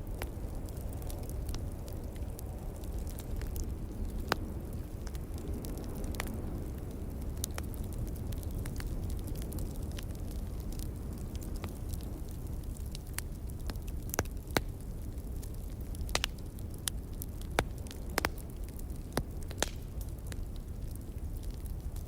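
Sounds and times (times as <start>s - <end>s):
log fire crackling and popping: 0.0s - 22.0s.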